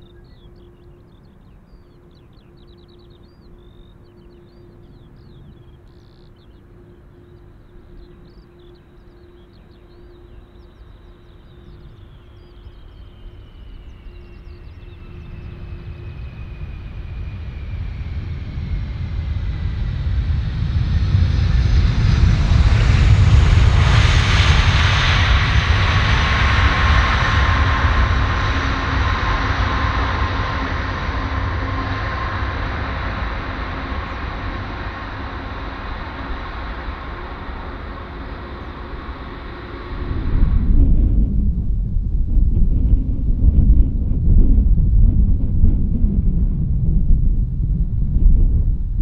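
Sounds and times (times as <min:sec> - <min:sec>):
jet engines in reverse thrust: 0:00.0 - 0:49.0
steady engine whine: 0:00.0 - 0:49.0.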